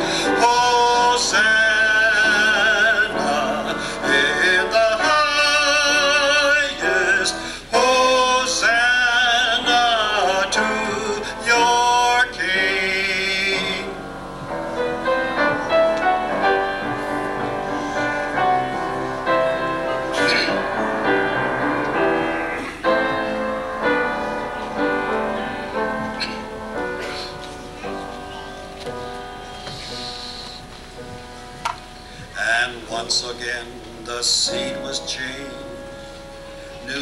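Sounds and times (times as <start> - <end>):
man singing with vibrato: 0.0 - 28.0, 32.2 - 37.0
piano accompaniment: 0.0 - 37.0.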